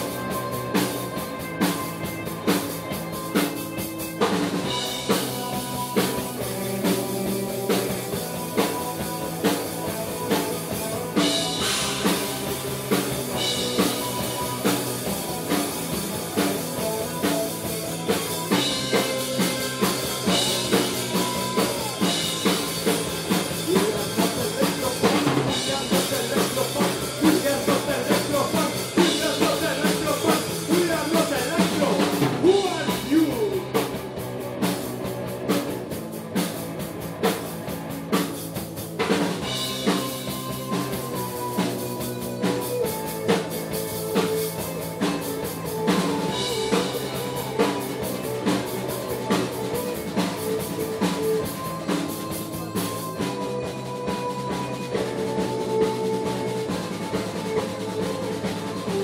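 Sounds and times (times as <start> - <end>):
drum kit: 0.0 - 59.0
punk rock band playing: 0.0 - 59.0.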